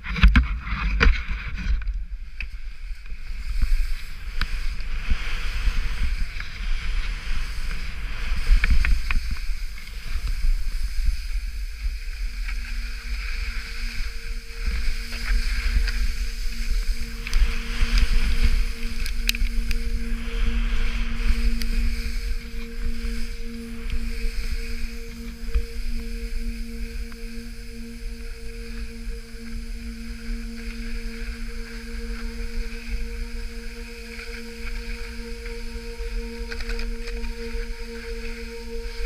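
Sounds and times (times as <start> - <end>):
skis scraping on snow: 0.0 - 39.0
wind buffeting microphone: 0.0 - 39.0.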